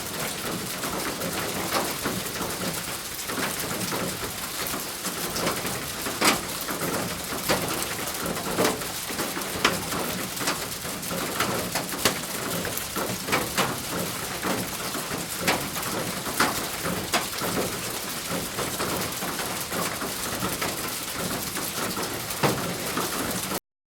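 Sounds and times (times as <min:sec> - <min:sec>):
rain pattering on a thin roof: 0:00.0 - 0:23.6.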